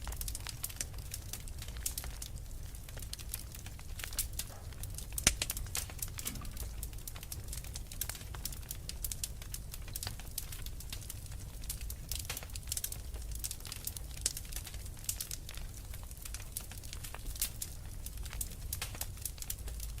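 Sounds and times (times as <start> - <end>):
fire crackling and popping: 0.0 - 20.0
low fire rumble: 0.0 - 20.0.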